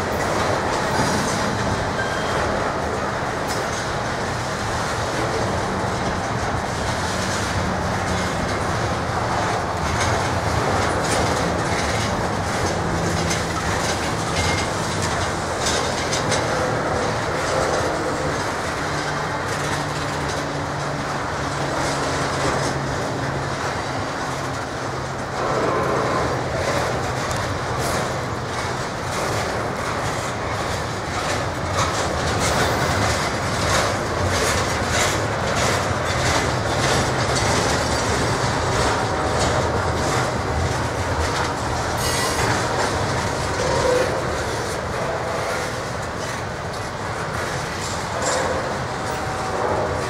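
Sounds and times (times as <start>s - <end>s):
train wheels rolling on rails: 0.0s - 50.0s.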